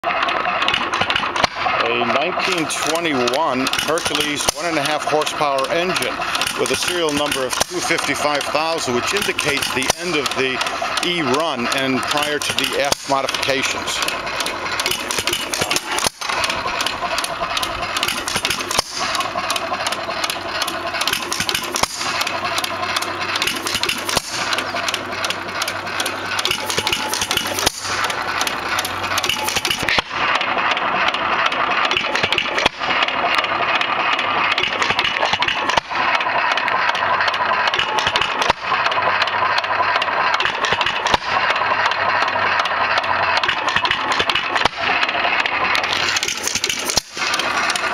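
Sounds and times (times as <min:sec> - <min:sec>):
hit-and-miss engine firing: 0:00.0 - 0:47.9.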